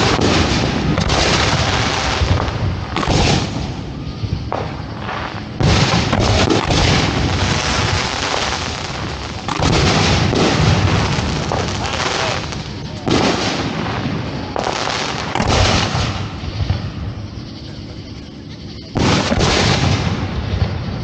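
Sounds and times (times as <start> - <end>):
fireworks launching and bursting: 0.0 - 18.1, 18.7 - 21.0.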